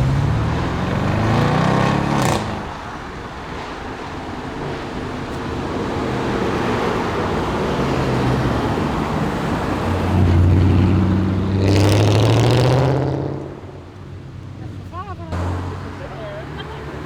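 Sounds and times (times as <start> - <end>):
car revving hard: 0.0 - 17.0
cars driving away: 0.0 - 17.0.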